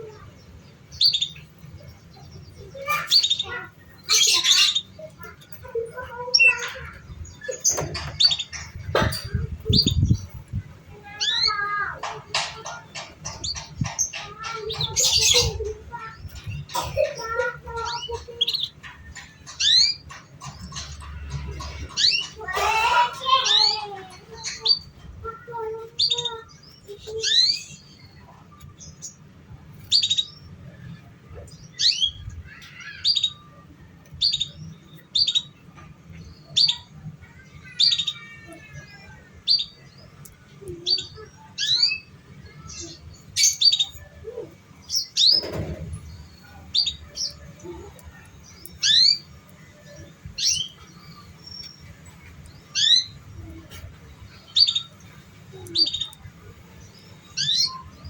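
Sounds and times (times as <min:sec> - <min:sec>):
canary chirping: 0:00.0 - 0:31.0, 0:31.6 - 0:58.0.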